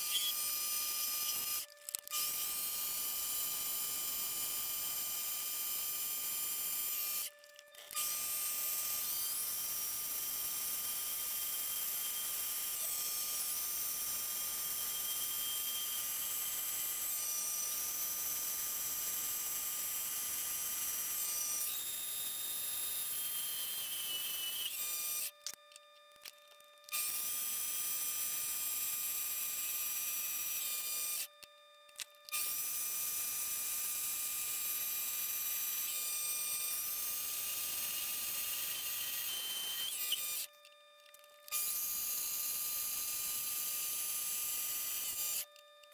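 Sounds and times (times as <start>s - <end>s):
lathe motor and gear whine: 0.0s - 25.6s, 26.9s - 45.9s.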